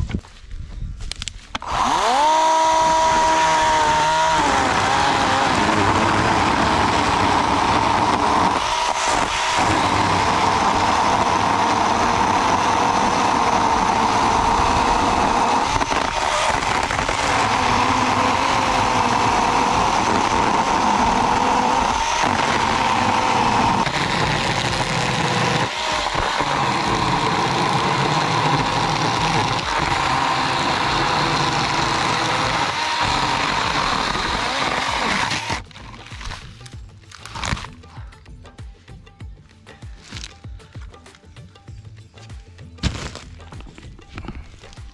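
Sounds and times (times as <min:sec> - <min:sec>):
electric chainsaw cutting wood: 0:01.5 - 0:37.8.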